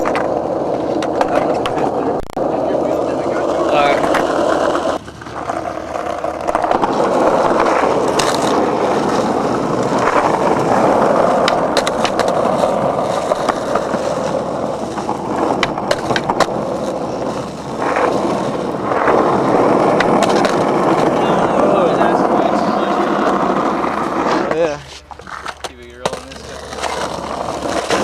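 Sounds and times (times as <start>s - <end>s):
skateboard clicks and ticks: 0.0s - 2.4s, 3.9s - 22.3s, 23.2s - 28.0s
skateboard wheels rolling on concrete: 0.0s - 28.0s.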